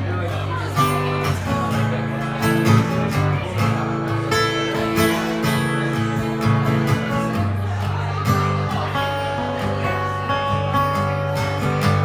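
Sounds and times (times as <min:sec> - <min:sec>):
strummed acoustic guitar: 0:00.0 - 0:12.0
upright bass: 0:00.0 - 0:12.0.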